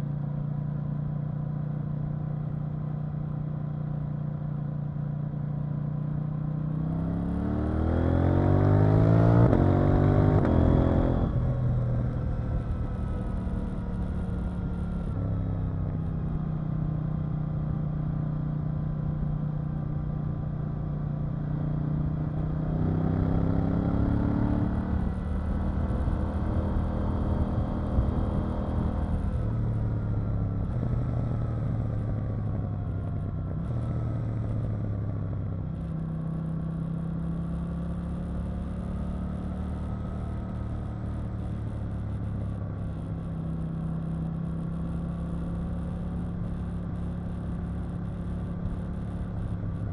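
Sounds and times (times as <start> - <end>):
motorcycle engine accelerating: 5.9 - 49.9.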